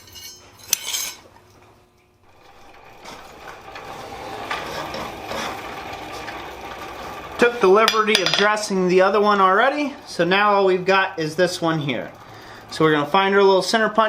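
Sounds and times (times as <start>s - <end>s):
mechanical running noise: 1.6s - 14.0s.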